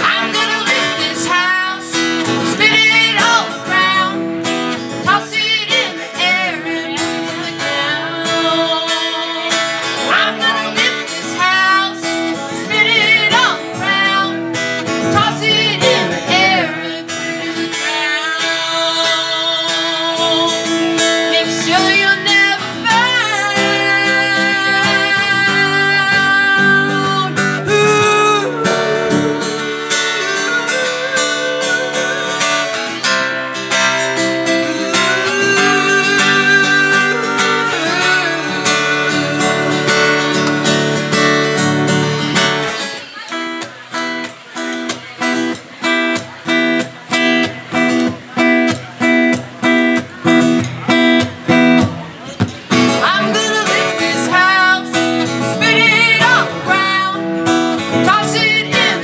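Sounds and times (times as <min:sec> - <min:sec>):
amplified guitar chords and strums: 0:00.0 - 0:59.0.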